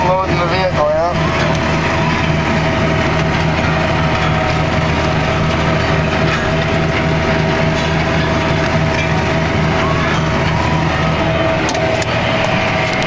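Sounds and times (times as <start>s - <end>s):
harvester clattering: 0.0s - 13.0s
tractor engine running under load: 0.0s - 13.0s.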